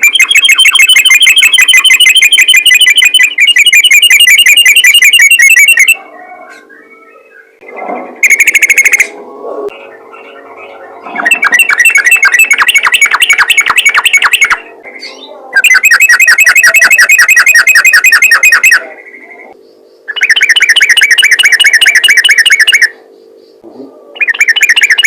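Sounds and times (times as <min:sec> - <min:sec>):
bulbul singing chattering notes: 0:00.0 - 0:06.0, 0:07.6 - 0:18.9, 0:19.7 - 0:23.6, 0:24.2 - 0:25.0
faint steady hum: 0:00.0 - 0:25.0.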